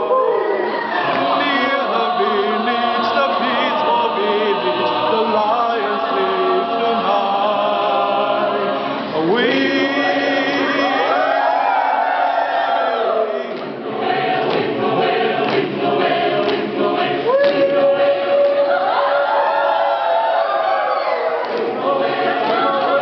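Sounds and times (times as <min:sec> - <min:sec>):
choir singing a cappella: 0:00.0 - 0:23.0.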